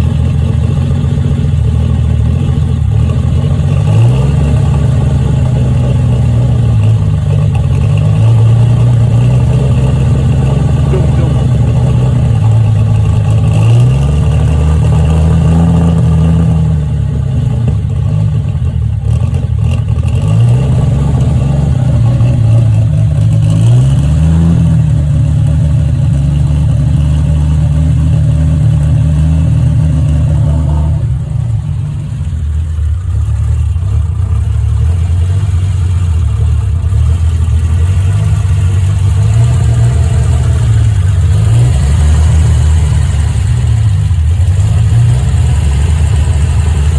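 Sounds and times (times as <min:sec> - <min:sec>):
car engine running and revving: 0:00.0 - 0:46.9.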